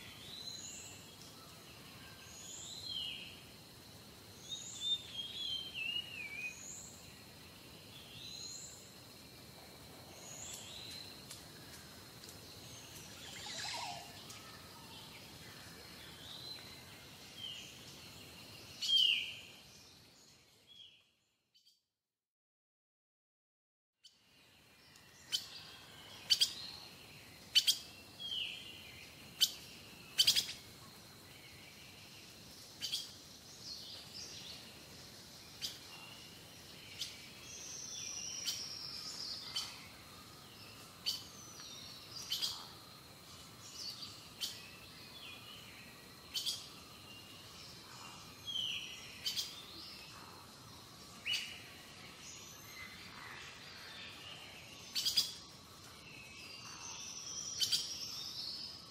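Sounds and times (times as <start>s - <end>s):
small birds chirping: 0.0s - 21.8s, 24.0s - 58.9s.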